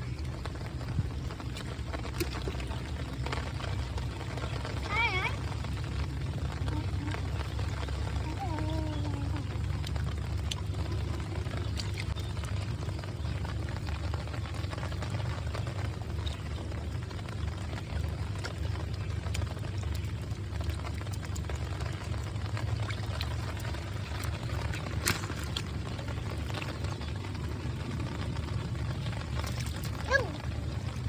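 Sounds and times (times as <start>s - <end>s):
steady low rumble: 0.0s - 31.0s
water sloshing and pouring: 0.0s - 31.0s.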